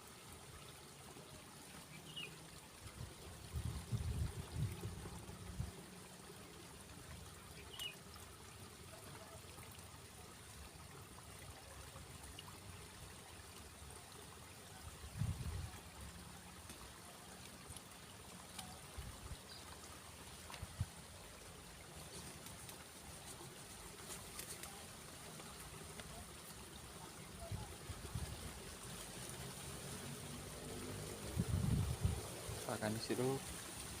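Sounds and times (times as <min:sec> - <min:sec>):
faint trickle of water: 0:00.0 - 0:34.0.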